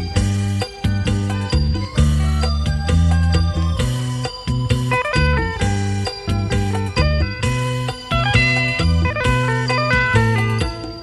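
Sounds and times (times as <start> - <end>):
repeating bass line: 0.0 - 11.0
plucked string melody: 1.1 - 11.0.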